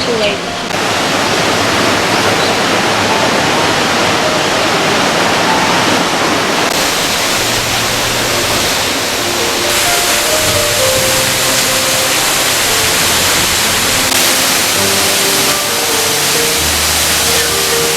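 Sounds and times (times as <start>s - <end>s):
waterfall pouring: 0.0s - 17.9s.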